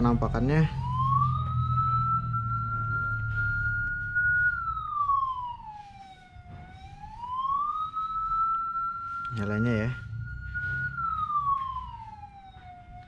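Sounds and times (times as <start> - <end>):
electronic siren wail: 0.0 - 13.0.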